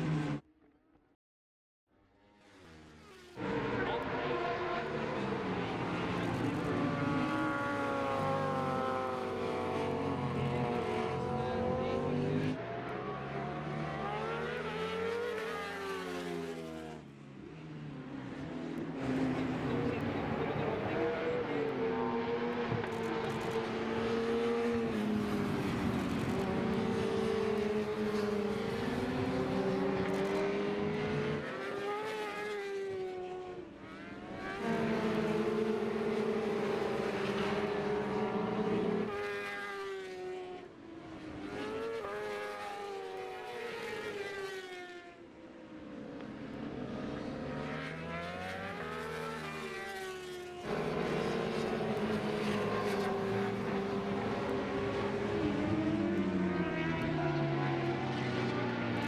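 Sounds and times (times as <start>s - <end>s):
racing motorcycles passing: 2.3s - 59.0s.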